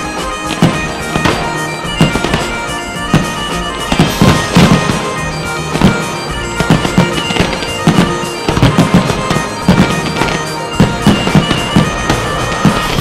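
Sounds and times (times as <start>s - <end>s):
fireworks bursting: 0.0s - 13.0s
loud music with held notes: 0.0s - 13.0s.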